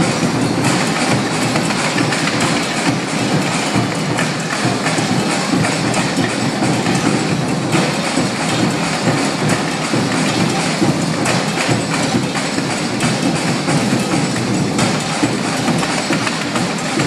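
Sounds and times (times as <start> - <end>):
bass drums: 0.0 - 17.0
snare drums: 0.0 - 17.0.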